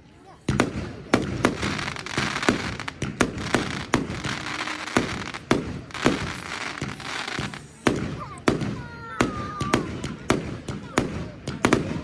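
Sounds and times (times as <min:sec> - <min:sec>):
fireworks crackling: 0:00.0 - 0:12.0
fireworks bangs: 0:00.4 - 0:12.0.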